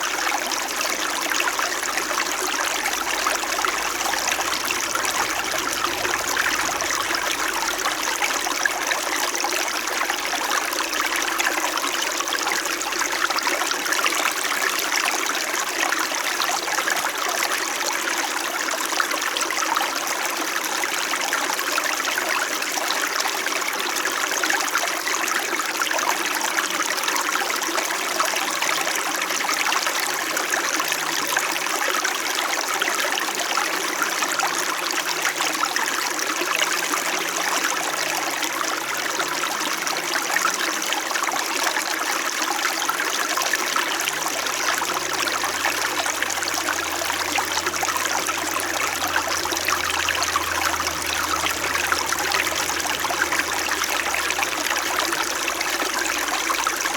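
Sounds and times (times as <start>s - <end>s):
stream trickling over stones: 0.0s - 56.9s.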